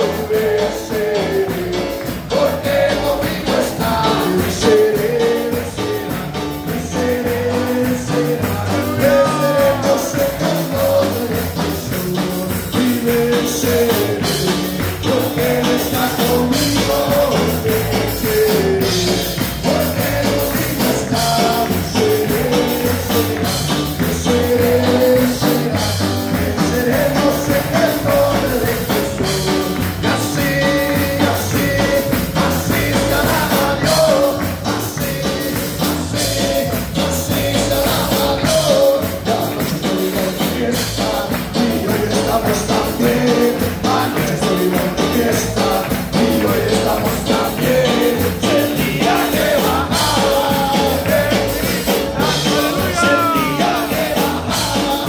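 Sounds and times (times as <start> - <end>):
church band playing: 0.0 - 55.0
congregation singing: 0.0 - 55.0
people clapping: 0.0 - 55.0.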